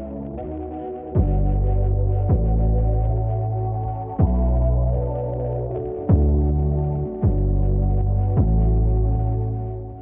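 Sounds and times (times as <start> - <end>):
ambient synth chords: 0.0 - 10.0.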